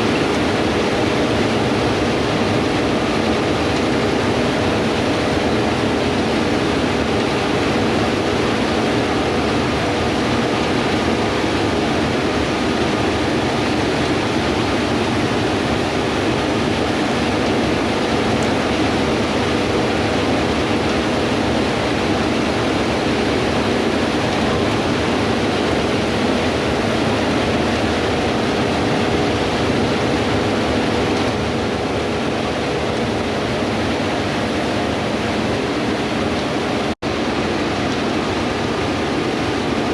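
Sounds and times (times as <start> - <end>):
harvest machinery running: 0.0 - 39.9.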